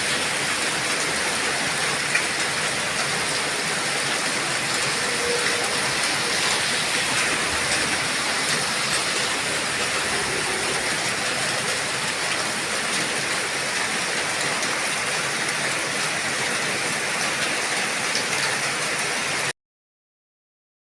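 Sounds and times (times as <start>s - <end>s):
heavy rain falling: 0.0s - 19.5s.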